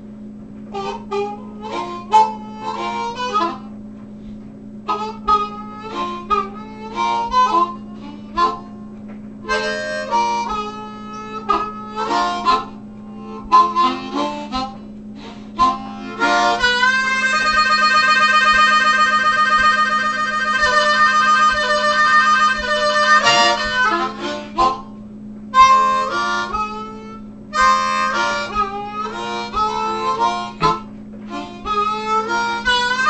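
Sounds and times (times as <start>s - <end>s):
harmonica playing: 0.7s - 3.8s, 4.8s - 33.0s.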